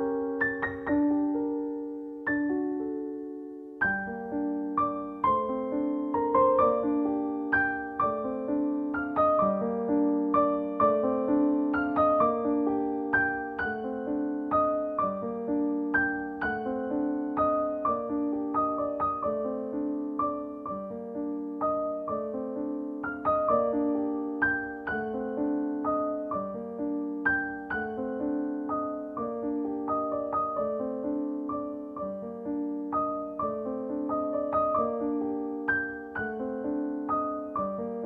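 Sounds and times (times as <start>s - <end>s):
gentle piano tune: 0.0s - 38.0s.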